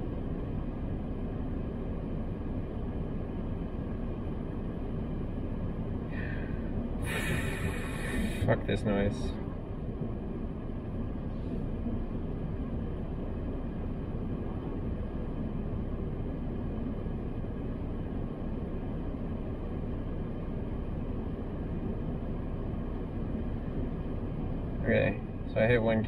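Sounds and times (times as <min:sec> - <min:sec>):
car cabin rumble and hum: 0:00.0 - 0:26.0.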